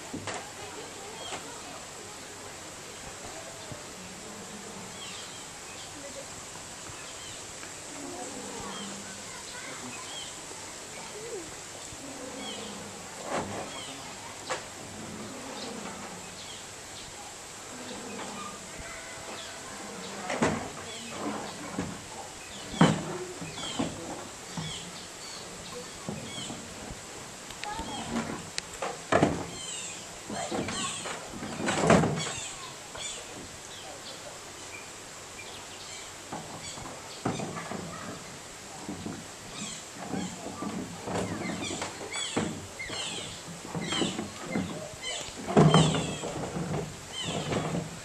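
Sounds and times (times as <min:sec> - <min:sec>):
outdoor background noise: 0:00.0 - 0:48.0.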